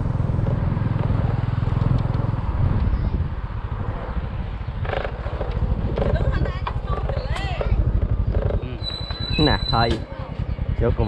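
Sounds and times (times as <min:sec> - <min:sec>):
road noise: 0:00.0 - 0:11.0
rushing wind: 0:00.0 - 0:11.0
small motorcycle engine running: 0:00.0 - 0:11.0.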